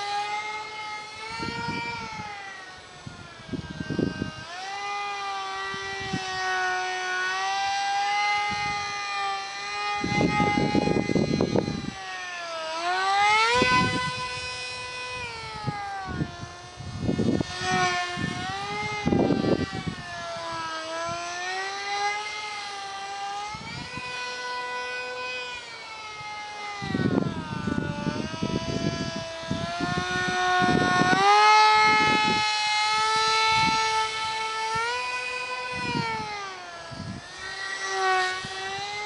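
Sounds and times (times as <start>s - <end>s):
wind buffeting microphone: 0.0s - 12.3s, 13.0s - 39.0s
electric motor and propeller whining: 0.0s - 39.0s.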